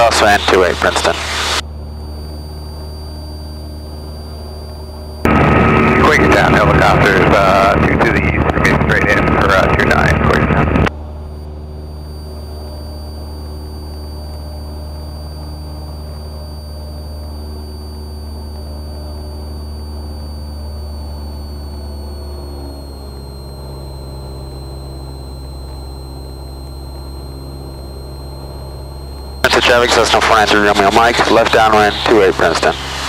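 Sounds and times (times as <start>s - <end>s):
light aircraft engine droning: 0.0s - 33.0s.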